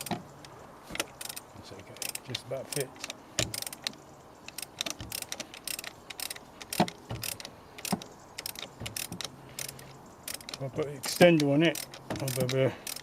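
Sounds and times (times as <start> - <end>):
metal tools clinking: 0.0 - 13.0
socket ratchet clicking: 0.0 - 13.0.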